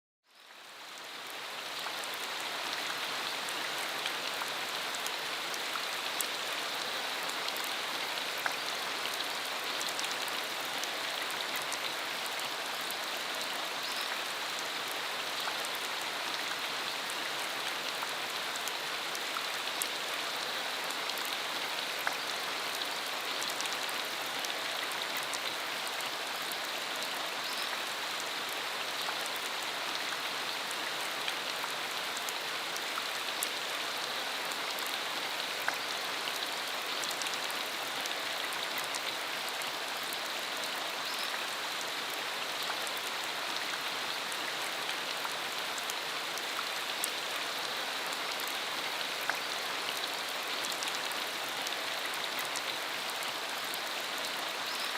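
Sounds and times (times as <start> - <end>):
steady rain falling: 0.3 - 54.9.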